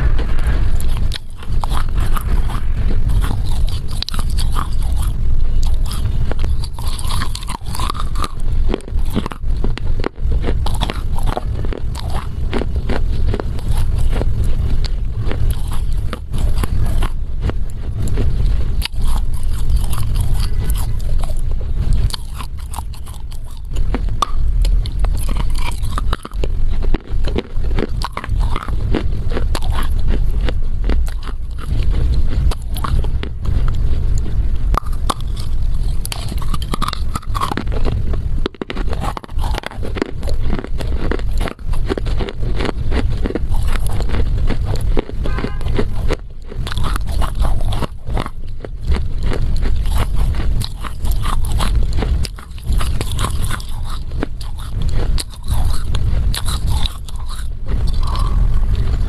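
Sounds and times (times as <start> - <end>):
chewing and crunching dry clay: 0.0 - 59.0.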